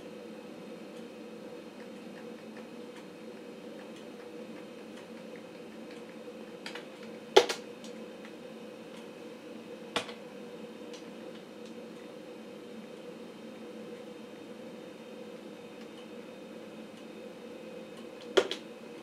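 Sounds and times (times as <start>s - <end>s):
computer humming: 0.0s - 19.0s.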